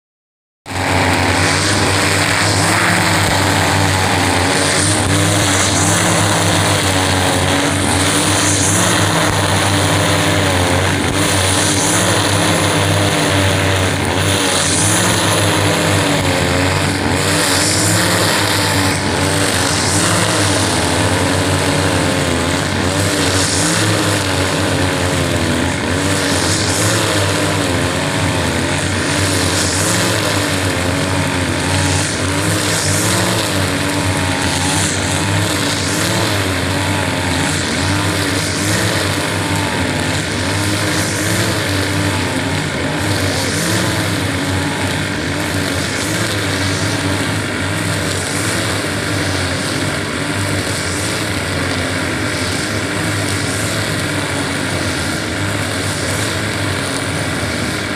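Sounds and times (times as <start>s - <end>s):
brush cutters running: 0.6s - 57.9s
trimmer line cutting grass: 0.6s - 57.9s.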